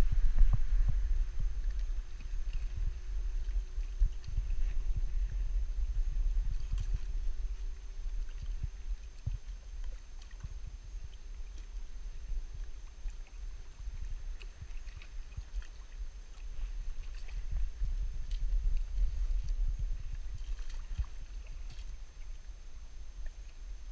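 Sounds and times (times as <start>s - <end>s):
wind buffeting microphone: 0.0s - 22.5s.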